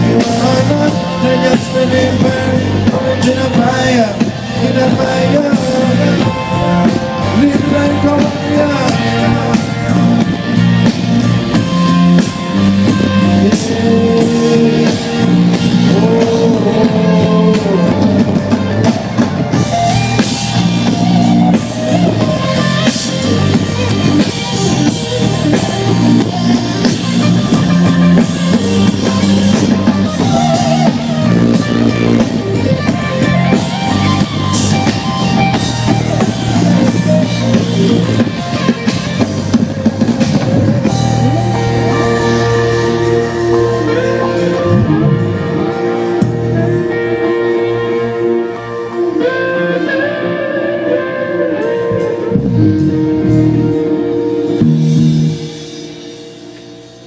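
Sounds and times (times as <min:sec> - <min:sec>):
bass: 0:00.0 - 0:57.0
drums: 0:00.0 - 0:57.0
electric guitar: 0:00.0 - 0:57.0.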